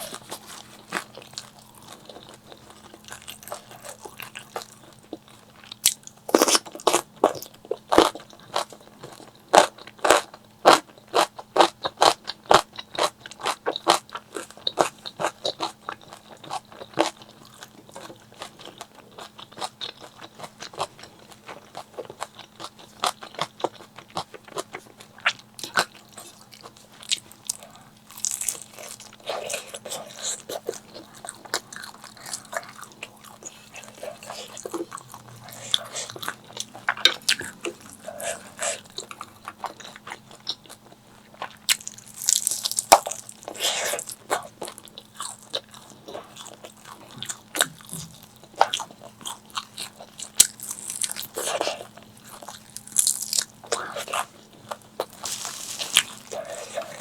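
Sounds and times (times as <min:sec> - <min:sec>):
crunchy food chewing: 0:00.0 - 0:57.0.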